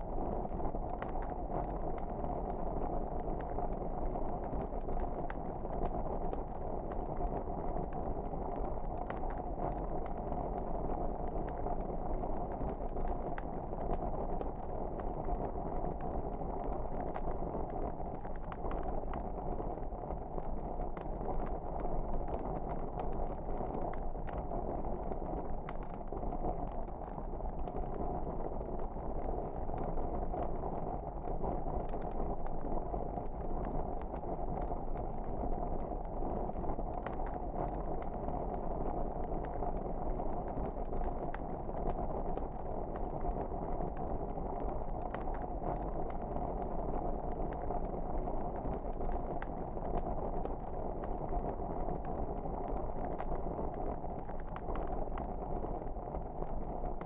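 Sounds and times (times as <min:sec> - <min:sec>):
fire crackles and pops: 0:00.0 - 0:57.0
fire rumbling: 0:00.0 - 0:57.0.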